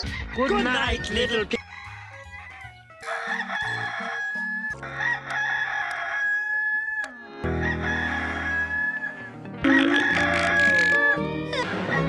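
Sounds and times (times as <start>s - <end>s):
rooster crowing: 1.5s - 11.3s.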